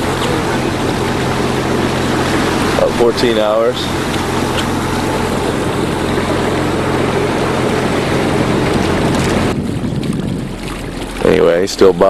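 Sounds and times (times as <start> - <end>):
boat engine humming: 0.0 - 12.0
water and wind hiss: 0.0 - 12.0.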